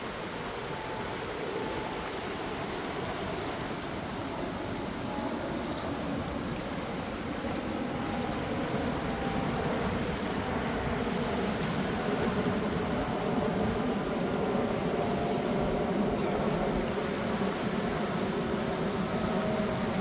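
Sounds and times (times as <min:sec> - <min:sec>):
sea waves washing: 0:00.0 - 0:20.0.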